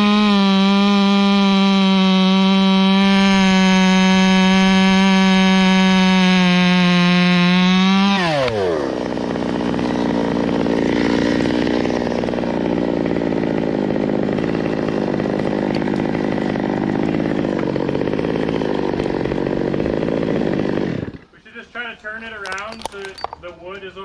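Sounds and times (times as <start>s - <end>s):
chainsaw revving then idling: 0.0s - 21.3s.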